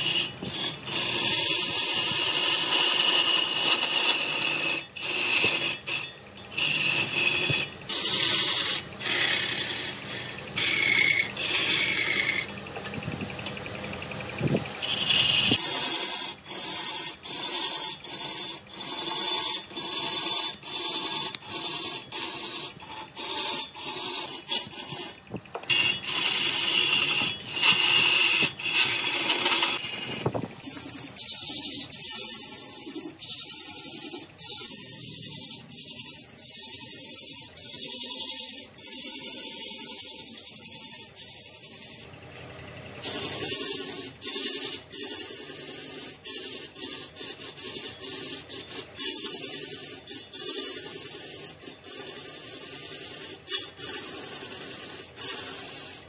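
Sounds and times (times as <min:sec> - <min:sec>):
tool scraping spinning wood: 0:00.0 - 0:56.0.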